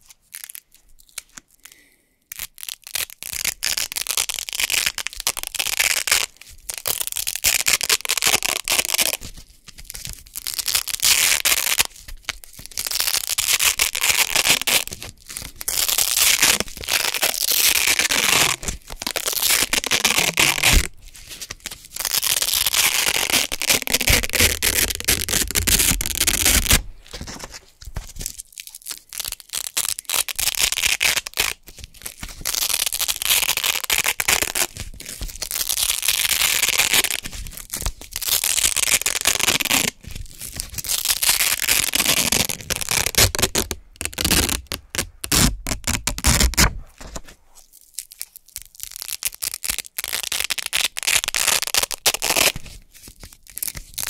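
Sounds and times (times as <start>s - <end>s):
velcro peeling apart: 0.0s - 54.0s.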